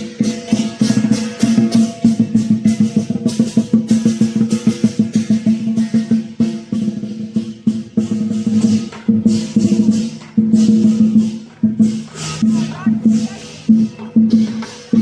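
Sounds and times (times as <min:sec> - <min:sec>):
clashing cymbals: 0:00.0 - 0:15.0
drum beaten fast: 0:00.0 - 0:15.0.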